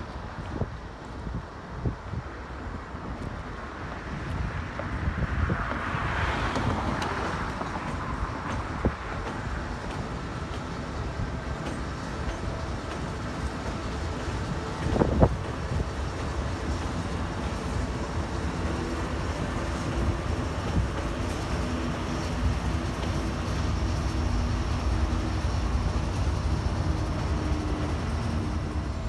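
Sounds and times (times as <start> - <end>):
container cars rumbling by: 0.0 - 29.0
diesel locomotives passing: 0.0 - 29.0.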